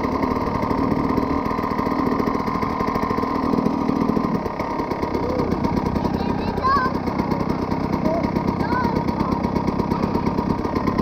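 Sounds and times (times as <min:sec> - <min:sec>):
two-stroke dirt bike engine: 0:00.0 - 0:11.0.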